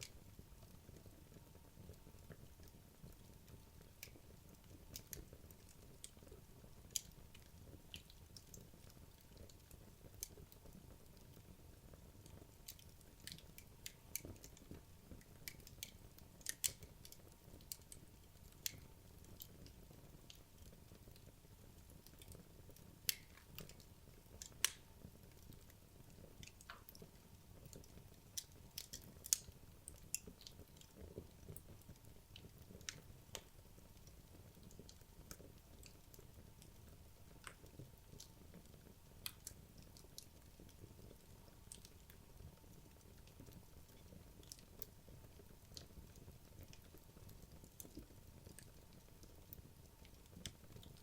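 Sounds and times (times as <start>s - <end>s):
logs crackling in a fireplace: 0.0s - 51.0s.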